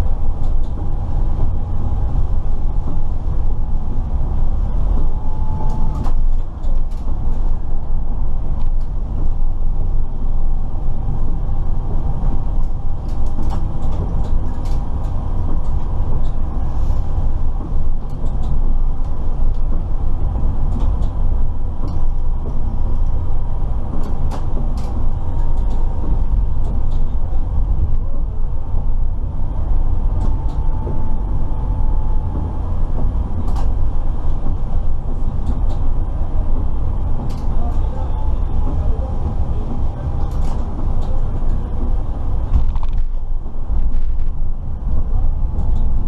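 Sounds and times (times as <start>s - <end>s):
tram low rumble: 0.0s - 46.0s.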